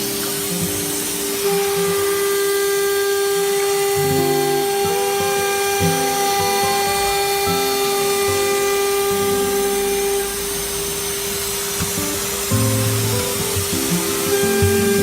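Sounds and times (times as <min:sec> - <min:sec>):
router spindle whine: 0:00.0 - 0:15.0.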